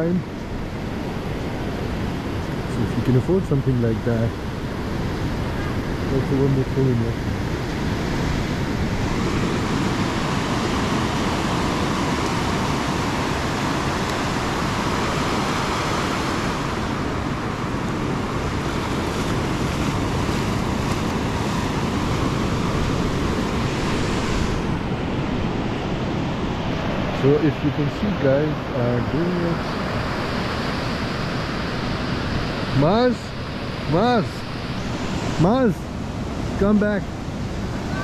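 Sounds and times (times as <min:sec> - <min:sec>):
ocean surf rushing: 0:00.0 - 0:38.0.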